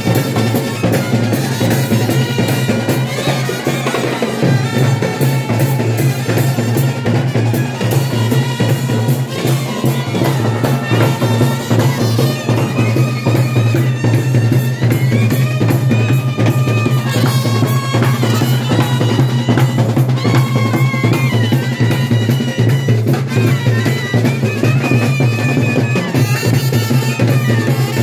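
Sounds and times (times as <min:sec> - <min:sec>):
snare drums: 0:00.0 - 0:28.0
trumpet melody: 0:00.0 - 0:28.0.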